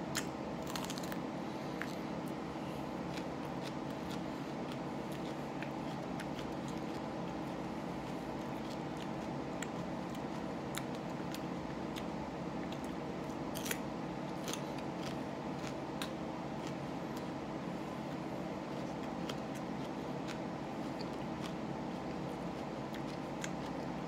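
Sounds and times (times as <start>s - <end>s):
man chewing crunchy food: 0.0s - 24.0s
steady background hum: 0.0s - 24.0s.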